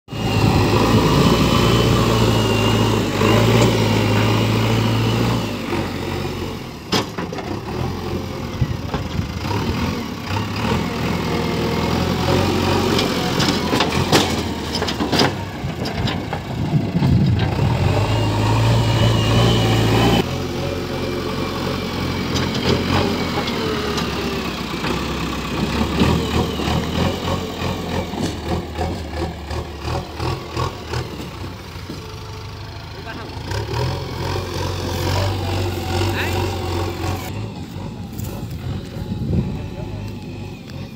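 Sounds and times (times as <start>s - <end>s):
diesel engine running: 0.1s - 40.9s.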